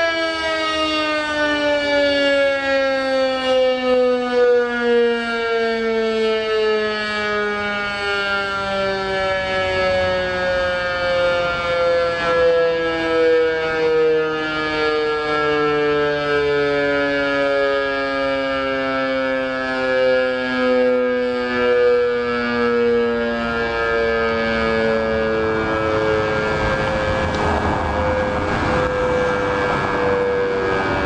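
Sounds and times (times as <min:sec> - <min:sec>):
two-tone alarm siren winding down: 0:00.0 - 0:31.0.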